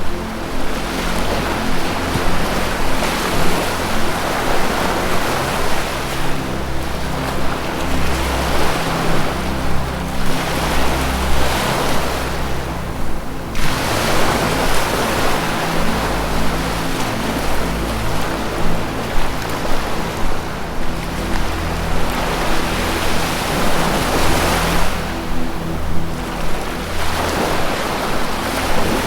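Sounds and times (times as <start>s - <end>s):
ambient music low held notes: 0.0s - 29.0s
ocean waves washing in: 0.0s - 29.0s.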